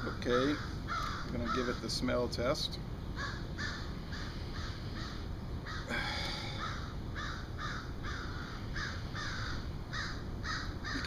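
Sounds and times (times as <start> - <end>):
crows cawing: 0.0 - 1.9, 3.2 - 11.0.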